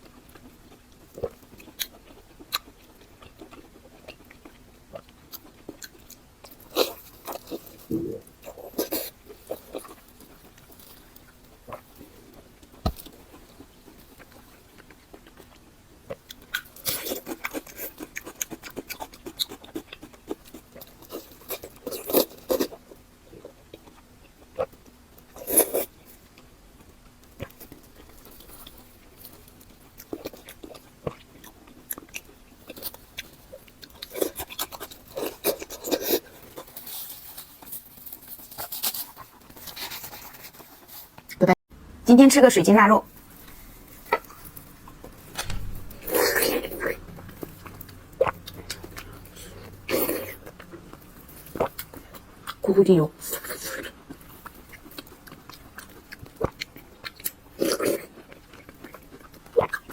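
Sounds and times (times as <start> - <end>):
crunchy chewing and bites: 0.0 - 41.4, 43.9 - 52.6, 53.4 - 59.9
faint low hum: 0.0 - 59.9.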